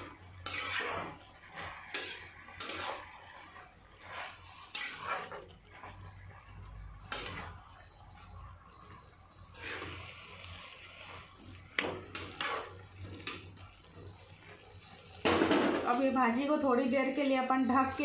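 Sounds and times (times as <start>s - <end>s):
metal spatula scraping a pan: 0.0s - 8.0s, 8.7s - 16.0s.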